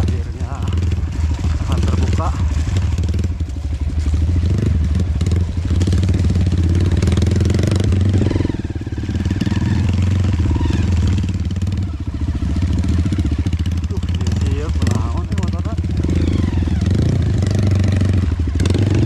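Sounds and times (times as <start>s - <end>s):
dirt bike engine under throttle: 0.0s - 19.0s.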